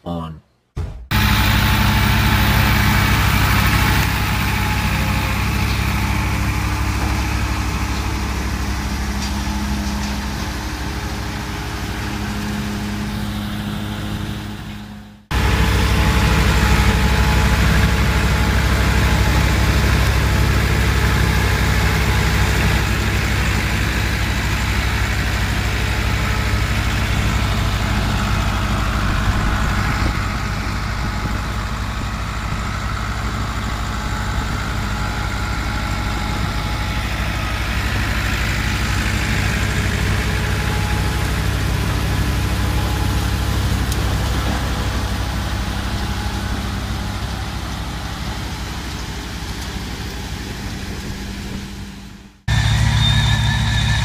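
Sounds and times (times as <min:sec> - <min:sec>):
straw chopper rushing noise: 0:00.8 - 0:54.0
tractor diesel engine running: 0:01.1 - 0:54.0.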